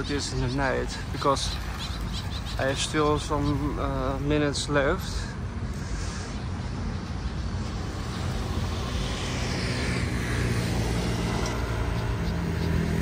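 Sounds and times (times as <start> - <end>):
passing vehicles: 0.0 - 13.0
vehicle engine hum: 0.0 - 13.0.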